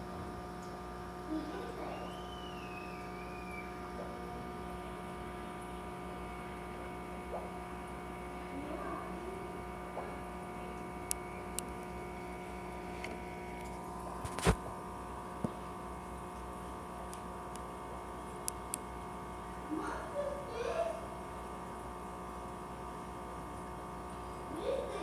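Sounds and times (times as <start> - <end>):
air pumps humming: 0.0 - 22.1.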